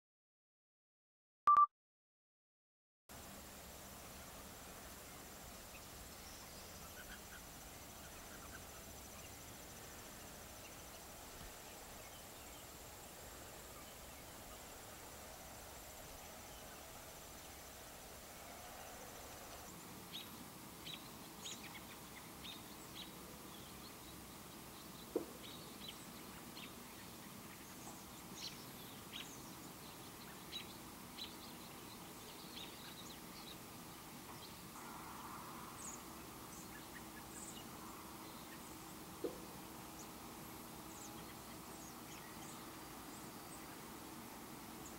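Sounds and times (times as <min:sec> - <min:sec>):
small birds chirping: 0:04.9 - 0:17.9, 0:18.9 - 0:34.8, 0:35.6 - 0:44.9.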